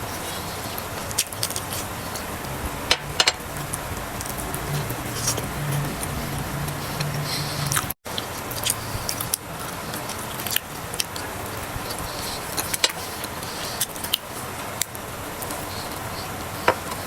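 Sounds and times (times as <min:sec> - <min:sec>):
chewing crunchy fried food: 0:00.1 - 0:02.5, 0:04.4 - 0:17.0.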